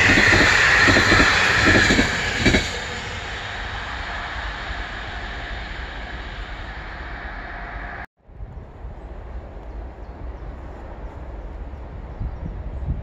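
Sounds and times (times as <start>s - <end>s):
passing train rail noise: 0.0s - 12.9s
wind rumble on microphone: 0.0s - 13.0s.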